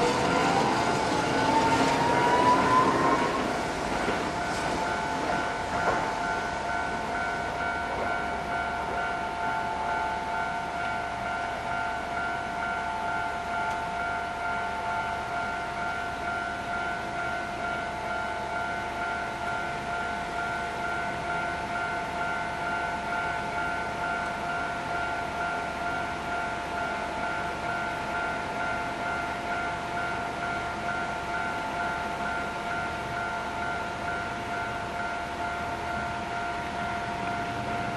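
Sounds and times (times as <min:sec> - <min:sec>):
level-crossing warning bell: 0:00.0 - 0:37.9.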